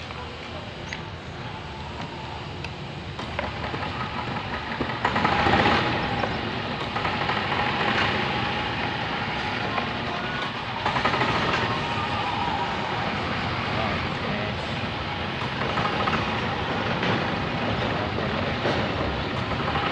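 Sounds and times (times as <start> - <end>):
golf cart engine running: 0.0 - 19.9.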